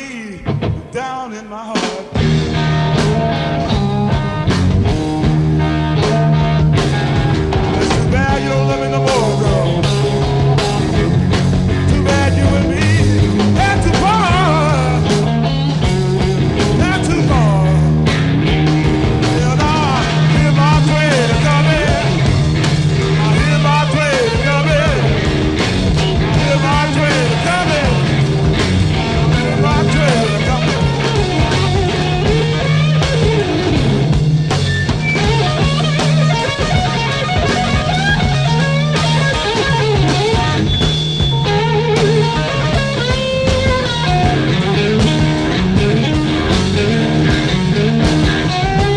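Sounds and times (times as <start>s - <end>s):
bass and drums: 0.0s - 1.0s, 1.8s - 48.9s
electric guitar solo: 2.2s - 48.9s.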